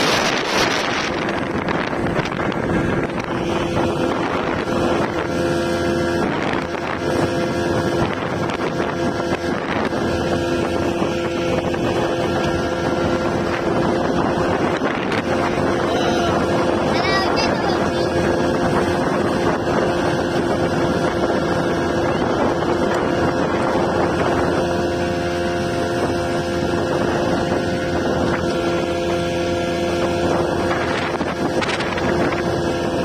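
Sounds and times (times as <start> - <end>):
boat motor running: 0.0 - 33.0
wind buffeting microphone: 0.0 - 33.0.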